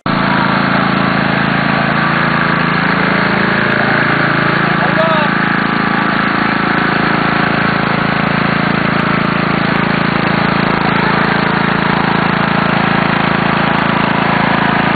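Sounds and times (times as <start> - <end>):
lawn tractor engine running: 0.0 - 14.9.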